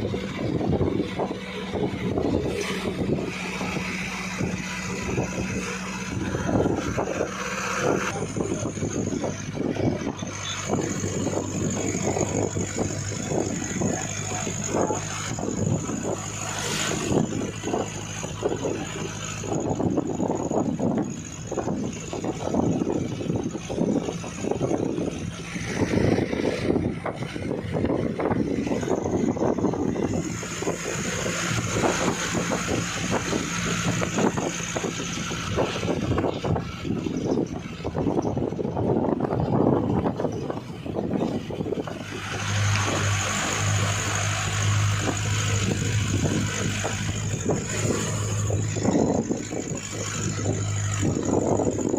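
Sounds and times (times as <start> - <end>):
low engine hum: 0.0 - 51.9
road and wind noise: 0.0 - 51.9.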